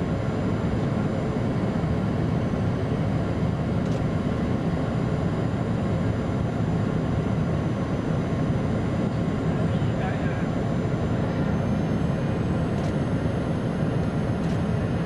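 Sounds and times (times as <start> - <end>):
aircraft engines droning in cabin: 0.0 - 15.0.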